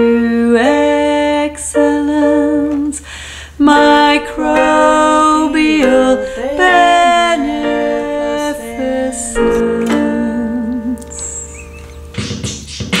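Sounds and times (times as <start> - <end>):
women singing in harmony: 0.0 - 3.0, 3.6 - 11.4.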